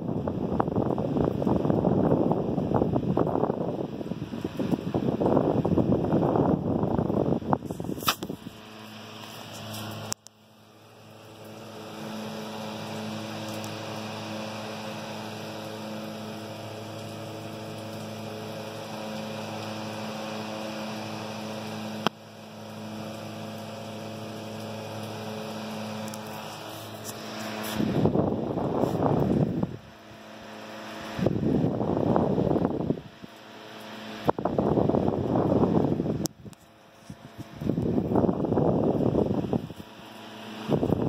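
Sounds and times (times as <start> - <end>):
fan motor humming: 0.0 - 41.0
rush of air off fan blades: 0.0 - 41.0.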